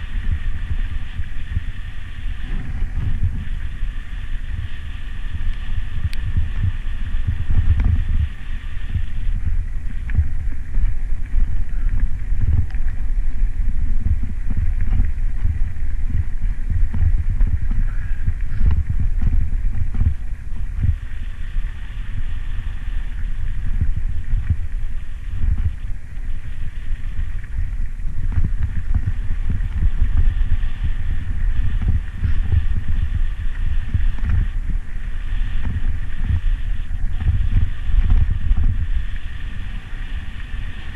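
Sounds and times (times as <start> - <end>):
bicycle rolling on rough road: 0.0 - 40.9
wind buffeting microphone: 0.0 - 40.9.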